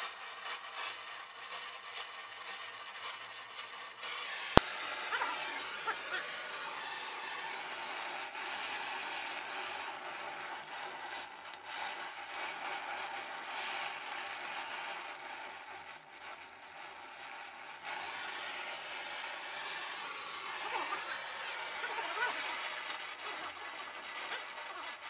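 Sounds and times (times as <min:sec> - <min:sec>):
welding torch flame hissing: 0:00.0 - 0:25.0.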